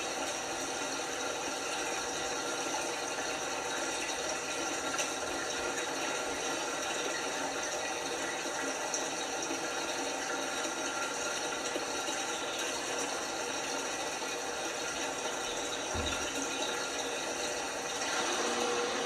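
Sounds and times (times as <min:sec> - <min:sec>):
water rushing into washing machine: 0:00.0 - 0:19.0.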